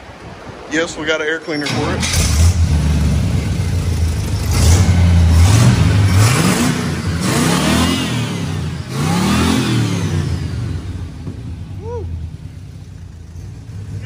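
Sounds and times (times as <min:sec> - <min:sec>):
engine revving: 0:01.7 - 0:14.0.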